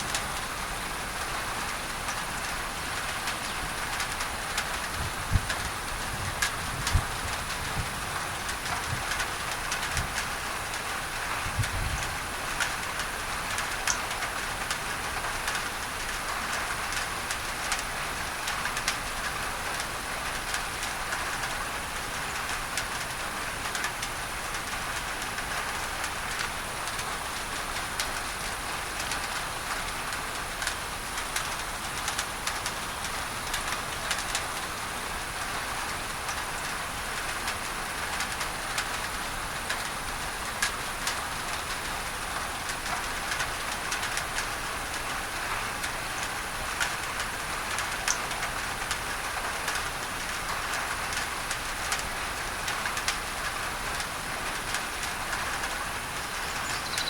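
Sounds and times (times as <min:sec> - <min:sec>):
pink noise hiss: 0:00.0 - 0:57.0
rain on a tin roof: 0:00.0 - 0:57.0.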